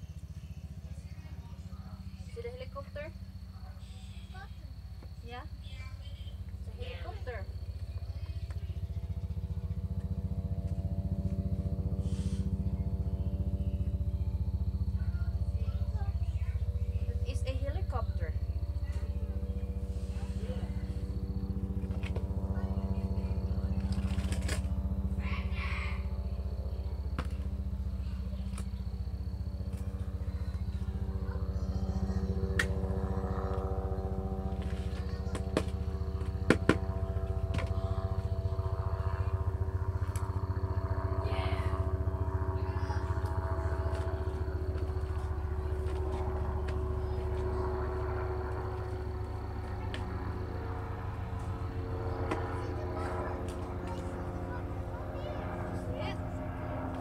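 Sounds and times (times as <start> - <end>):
low motor hum: 0.0 - 57.0.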